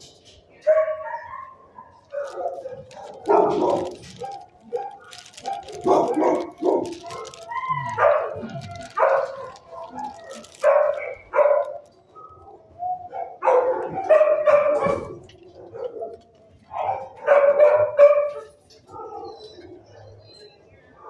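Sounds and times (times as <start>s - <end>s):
dog barking: 0.6s - 20.2s.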